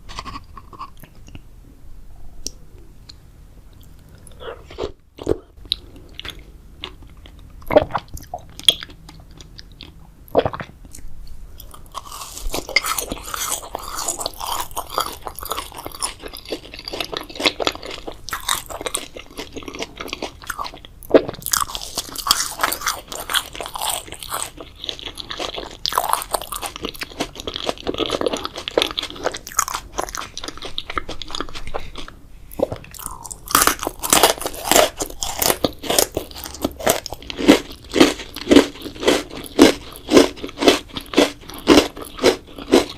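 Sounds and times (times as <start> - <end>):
biting and chewing jelly: 0.0 - 1.5, 3.8 - 42.9.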